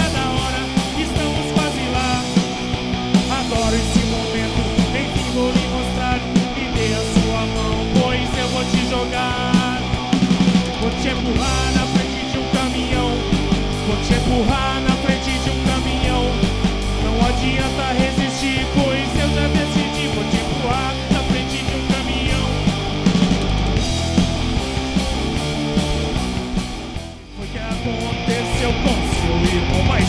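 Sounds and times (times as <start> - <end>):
drum kit with cymbals: 0.0 - 30.0
electric bass: 0.0 - 30.0
electric guitars: 0.0 - 30.0.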